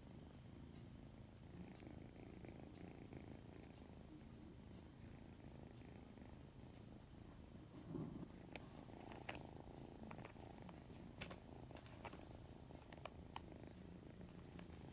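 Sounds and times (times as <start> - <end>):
kitten purring: 0.0 - 14.9.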